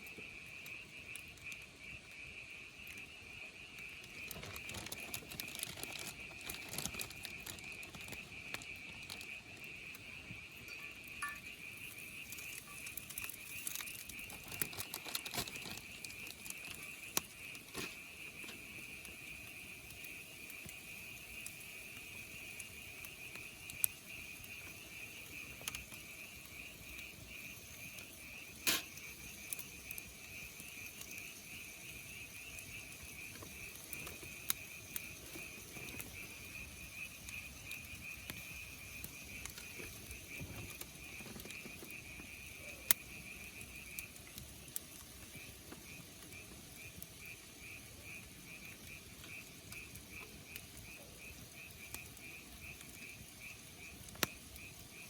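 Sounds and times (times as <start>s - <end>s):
insect chirping: 0.0s - 55.0s.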